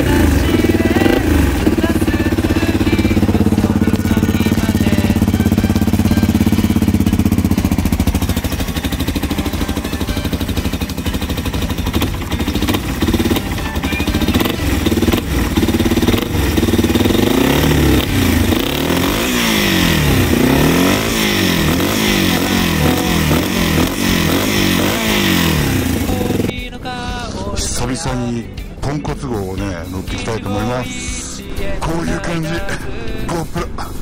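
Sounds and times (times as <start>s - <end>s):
motorcycle engine idling and revving: 0.0s - 27.7s.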